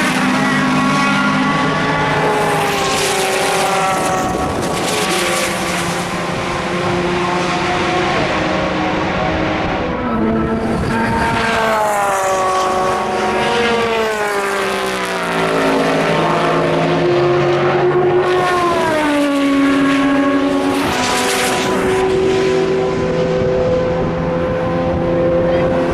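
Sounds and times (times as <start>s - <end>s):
racing cars passing: 0.0s - 25.9s.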